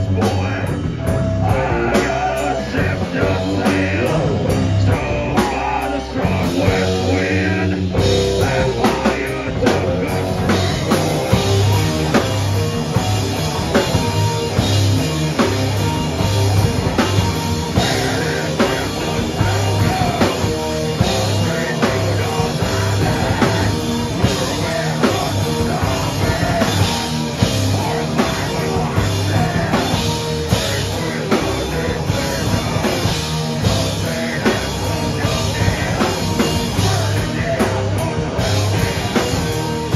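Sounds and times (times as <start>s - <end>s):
person singing into a microphone: 0.0s - 12.2s, 17.7s - 39.9s
punk metal band playing: 0.0s - 39.9s.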